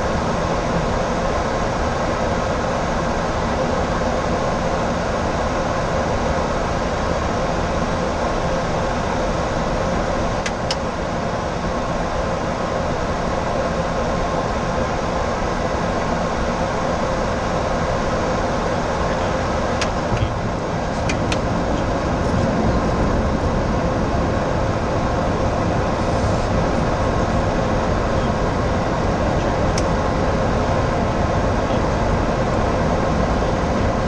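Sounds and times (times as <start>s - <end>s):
airflow and engine noise: 0.0s - 34.0s.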